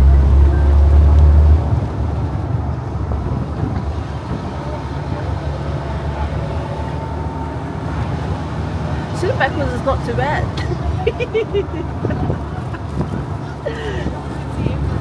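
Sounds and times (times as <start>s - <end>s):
vehicle rumbling: 0.0s - 15.0s
wind buffeting microphone: 0.0s - 15.0s.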